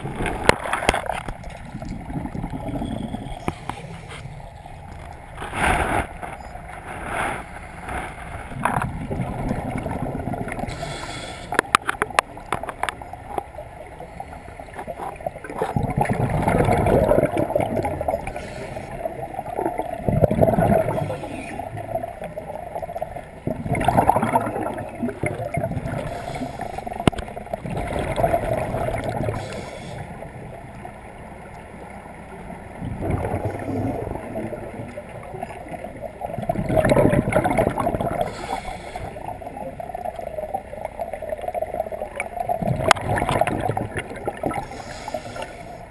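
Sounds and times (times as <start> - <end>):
regulator bubbles gurgling underwater: 0.0 - 7.0, 7.6 - 45.9.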